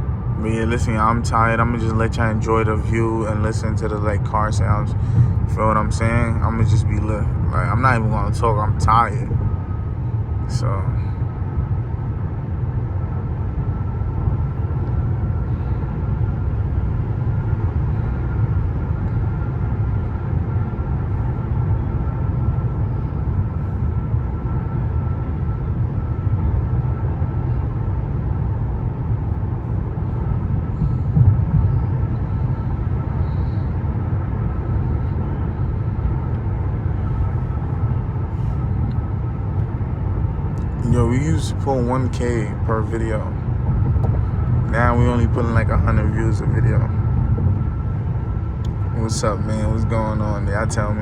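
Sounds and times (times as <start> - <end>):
engine and road rumble in car: 0.0 - 51.0
faint steady whine: 0.0 - 51.0.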